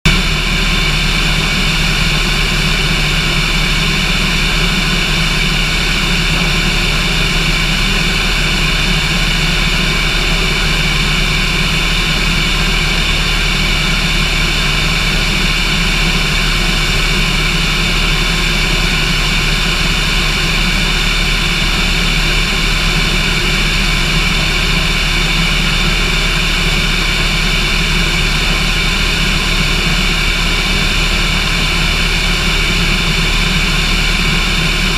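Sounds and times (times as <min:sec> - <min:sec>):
small aircraft engine droning: 0:00.1 - 0:34.9.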